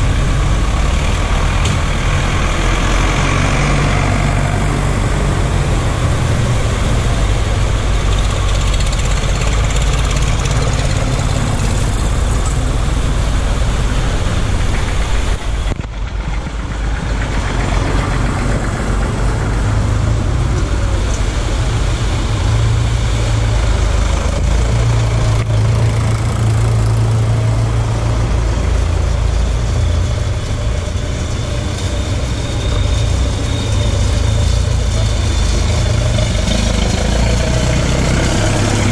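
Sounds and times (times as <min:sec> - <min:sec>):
tractor engines droning: 0:00.0 - 0:38.9
water splashing from wheels: 0:00.0 - 0:38.9.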